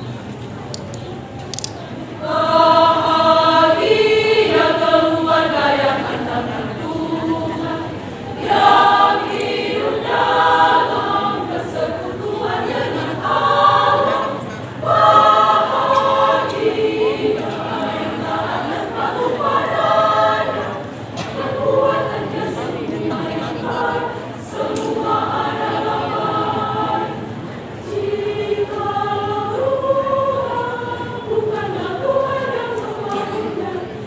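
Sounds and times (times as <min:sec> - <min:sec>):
women's choir singing: 0:02.0 - 0:34.0.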